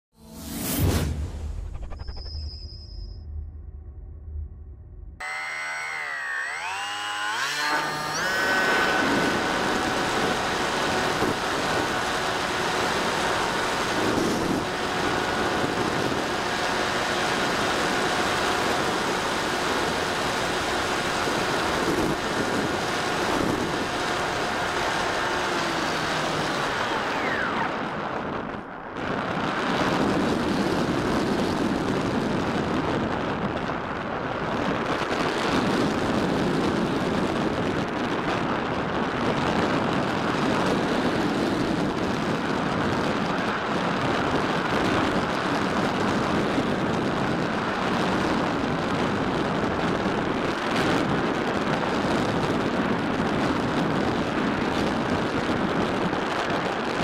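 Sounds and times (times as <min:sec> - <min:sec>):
electric motor and propeller whine: 0:05.1 - 0:57.0
rushing wind noise: 0:07.4 - 0:57.0.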